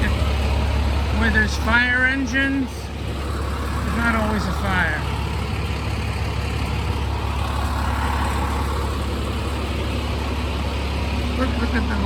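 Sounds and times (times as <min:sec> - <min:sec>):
diesel engine idling: 0:00.0 - 0:12.0
street noise: 0:00.0 - 0:12.0.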